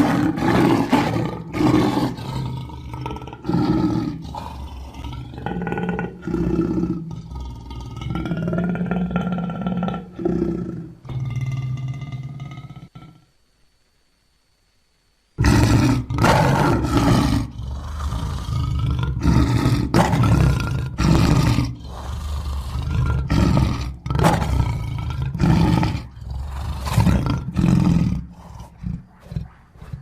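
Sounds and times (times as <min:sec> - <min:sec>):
lion roaring: 0:00.0 - 0:13.2, 0:15.4 - 0:30.0.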